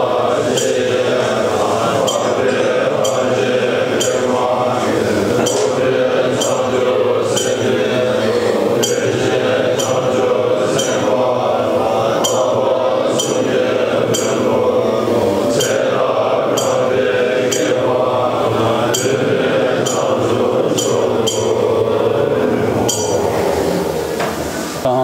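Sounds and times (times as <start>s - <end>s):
high metallic chimes: 0.0s - 11.4s, 12.1s - 22.1s, 22.8s - 24.1s
monks chanting: 0.0s - 25.0s.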